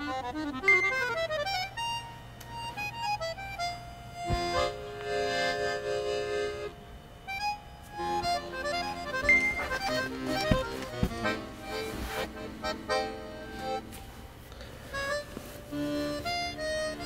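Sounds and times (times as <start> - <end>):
accordion music: 0.0 - 17.0.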